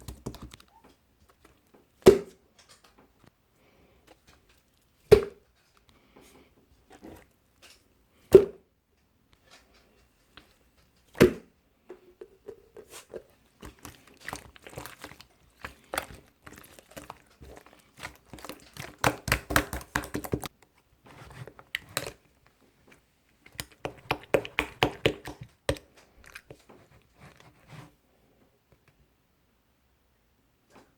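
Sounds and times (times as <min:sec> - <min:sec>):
rapid clicking and crinkling: 0:00.0 - 0:08.0, 0:08.9 - 0:11.2, 0:11.9 - 0:27.7.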